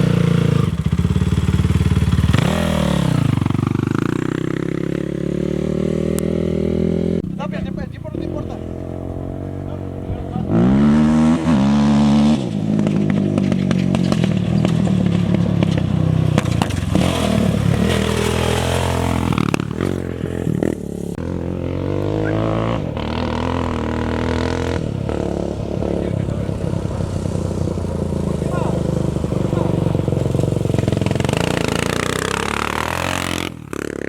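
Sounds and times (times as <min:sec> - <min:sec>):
racing engines revving: 0:00.0 - 0:34.0.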